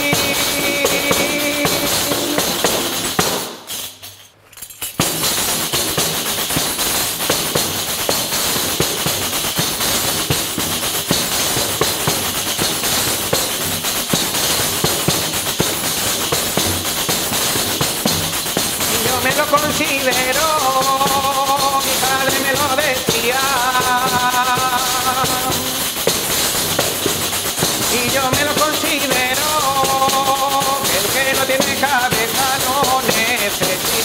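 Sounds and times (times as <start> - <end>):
tambourine with jingles: 0.0 - 34.0.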